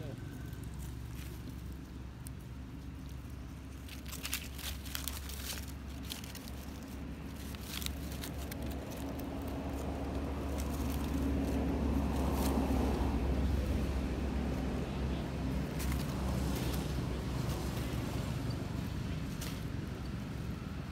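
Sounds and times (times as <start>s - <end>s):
dry leaves crinkling: 0.0s - 20.9s
vehicle engine humming: 0.0s - 20.9s.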